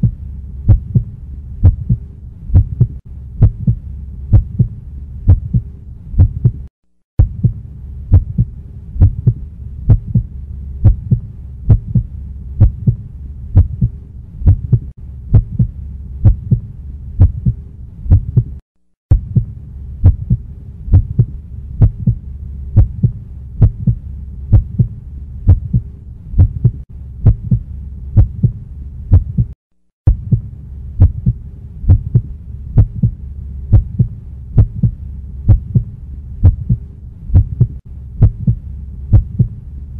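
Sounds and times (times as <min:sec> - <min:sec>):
heartbeat: 0:00.0 - 0:39.6
low hum: 0:00.0 - 0:39.9.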